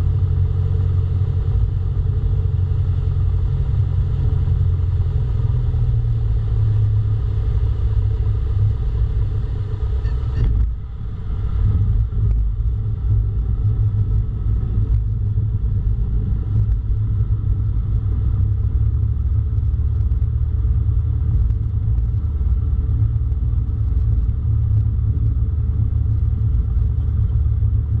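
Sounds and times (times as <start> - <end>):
small plane engine droning: 0.0 - 28.0.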